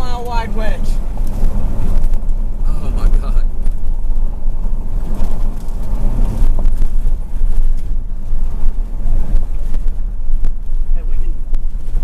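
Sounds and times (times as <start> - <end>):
car rumble from inside cabin: 0.0 - 12.0
wind and road noise: 0.0 - 12.0.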